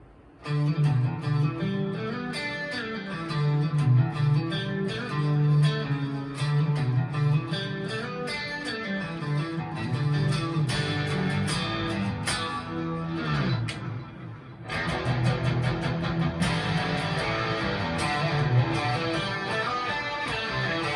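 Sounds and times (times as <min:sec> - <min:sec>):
electric guitar rock riff: 0:00.4 - 0:20.9.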